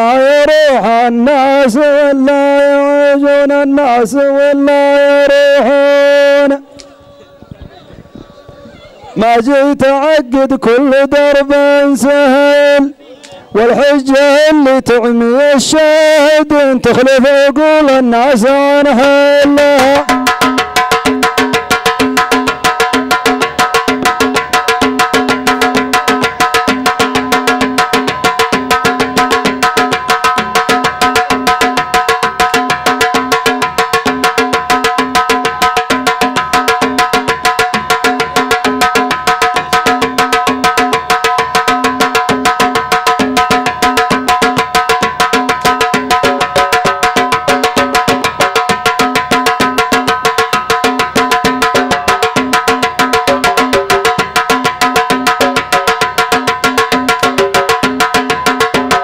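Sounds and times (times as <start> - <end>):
drums beating fast rhythm: 0.0 - 12.9, 13.5 - 59.0.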